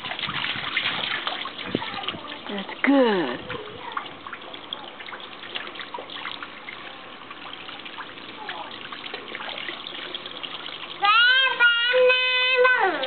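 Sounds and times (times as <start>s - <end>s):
hose pouring water into a basin: 0.0s - 13.0s.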